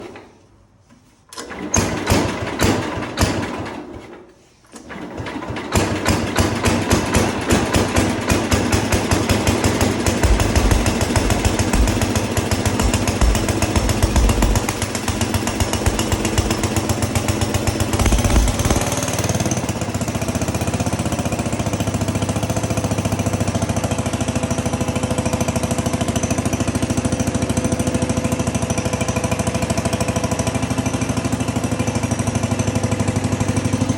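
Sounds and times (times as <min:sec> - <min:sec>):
small engine starting and thumping: 0:01.3 - 0:33.9.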